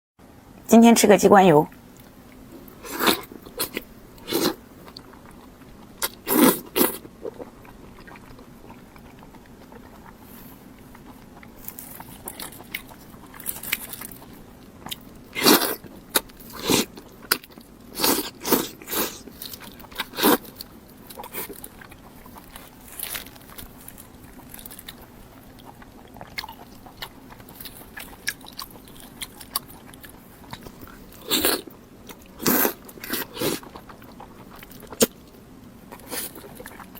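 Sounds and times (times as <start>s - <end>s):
crunchy biting and chewing: 2.0s - 36.9s.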